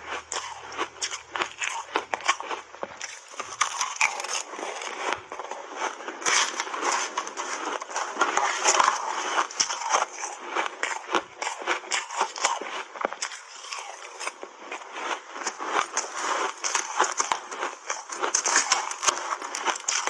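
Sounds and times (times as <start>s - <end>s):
ice being crunched and chewed: 0.0s - 20.0s.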